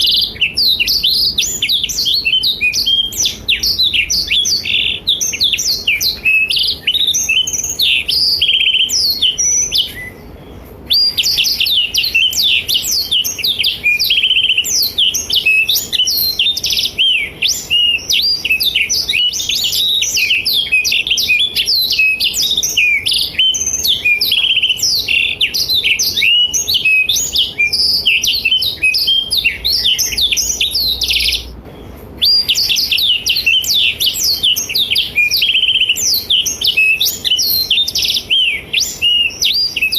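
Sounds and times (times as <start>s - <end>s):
canary twittering and trilling: 0.0s - 10.3s, 10.9s - 31.5s, 32.2s - 39.9s.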